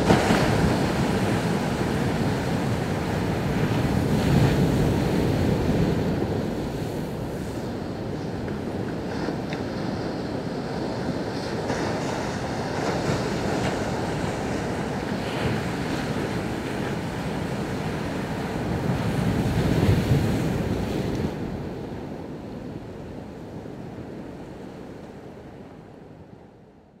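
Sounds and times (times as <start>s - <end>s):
ocean surf breaking: 0.0s - 25.5s.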